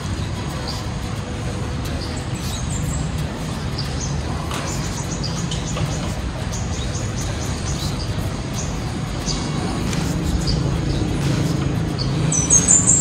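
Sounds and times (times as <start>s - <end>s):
birds chirping: 0.0s - 13.0s
steady rushing noise: 0.0s - 13.0s.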